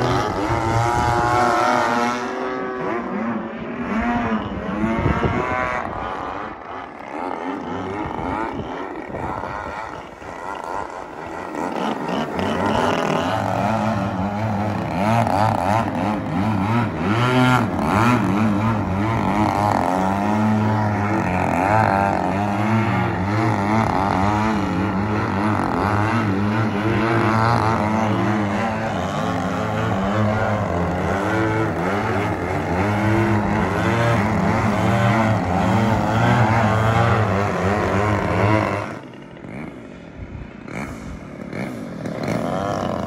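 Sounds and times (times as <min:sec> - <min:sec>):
model plane engines buzzing: 0:00.0 - 0:43.0.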